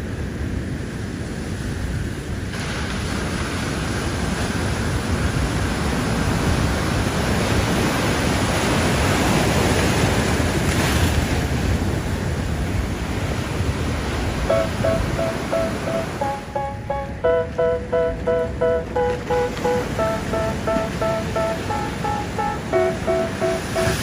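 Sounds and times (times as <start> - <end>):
ocean surf breaking: 2.5 - 24.0.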